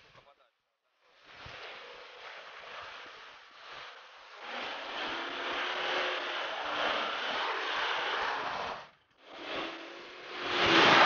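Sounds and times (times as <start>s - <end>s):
car engine pulling under load: 1.0s - 11.0s
tyres churning mud: 1.2s - 11.0s.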